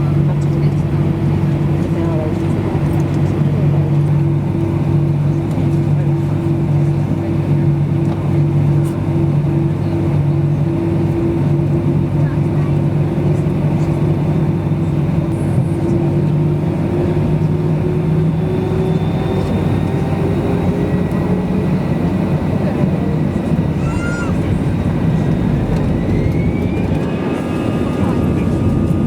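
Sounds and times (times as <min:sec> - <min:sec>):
jet engine cabin noise: 0:00.0 - 0:29.0.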